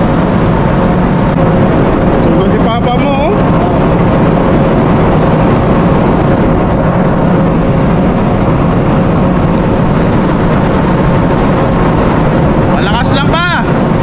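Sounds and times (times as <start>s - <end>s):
ship machinery drone: 0.0s - 14.0s.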